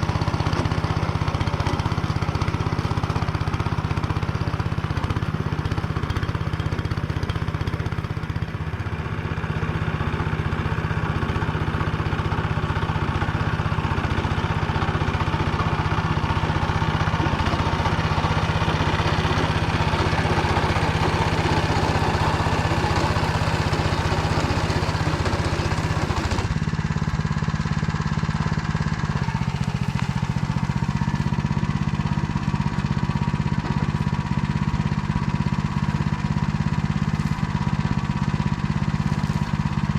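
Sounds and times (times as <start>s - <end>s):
tiller engine running under load: 0.0s - 39.9s.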